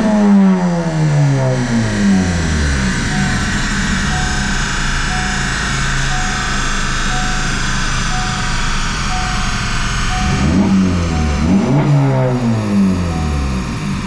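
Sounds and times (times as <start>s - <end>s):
car engine revving: 0.0s - 14.0s
short beeps: 2.2s - 14.0s.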